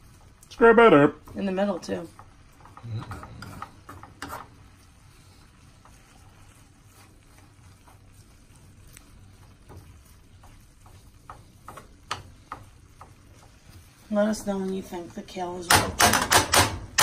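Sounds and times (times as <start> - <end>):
faint sizzle: 0.0 - 17.0
spatula scraping frying pan: 0.0 - 17.0.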